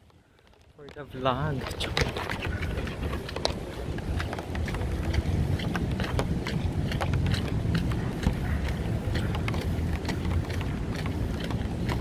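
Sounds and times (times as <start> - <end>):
traffic rumble: 0.0 - 12.0
sharp ticks: 0.8 - 12.0
wind on microphone: 0.9 - 12.0.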